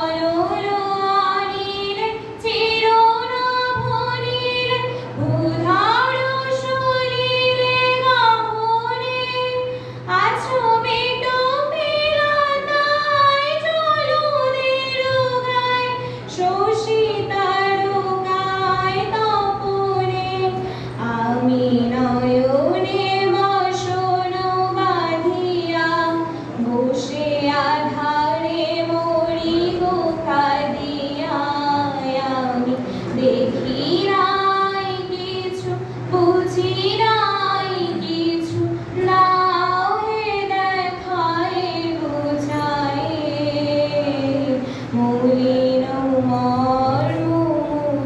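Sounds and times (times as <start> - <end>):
woman singing: 0.0 - 48.0.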